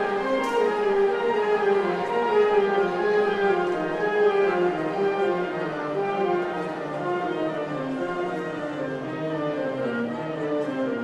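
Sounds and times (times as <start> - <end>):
orchestral music with sustained notes: 0.0 - 11.0.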